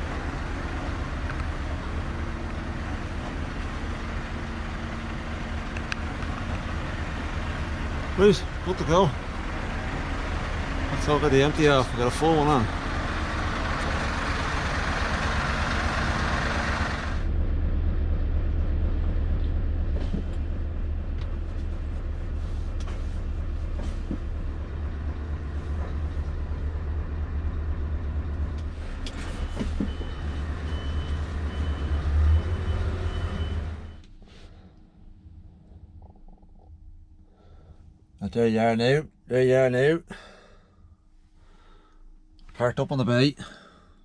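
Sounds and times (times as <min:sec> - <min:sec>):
diesel truck engine rumbling: 0:00.0 - 0:44.0.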